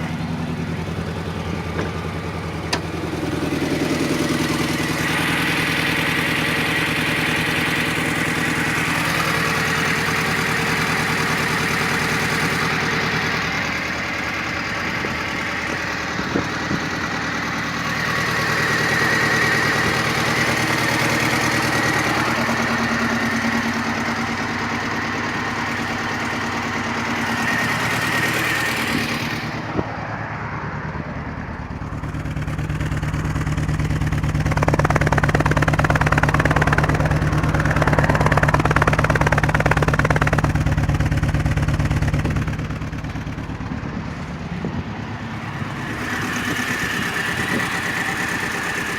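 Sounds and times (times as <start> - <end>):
misfiring car engine: 0.0 - 48.9.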